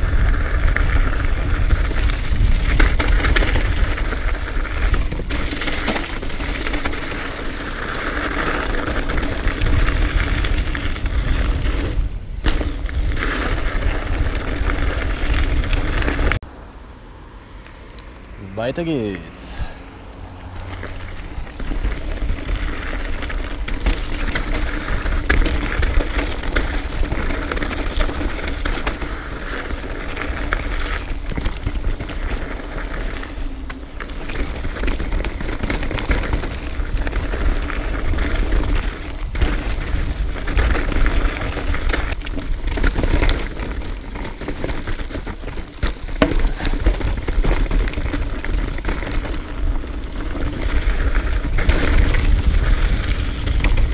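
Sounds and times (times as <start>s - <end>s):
bike knocks and rattles: 0.0s - 16.4s, 20.8s - 53.9s
bike tyres rolling on dirt: 0.0s - 16.5s, 17.4s - 53.9s
wind rumbling on microphone: 0.0s - 18.4s, 19.5s - 53.9s.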